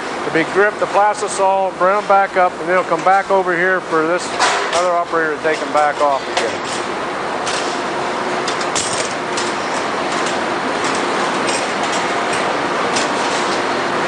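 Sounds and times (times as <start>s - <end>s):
factory machinery noise: 0.0s - 14.0s.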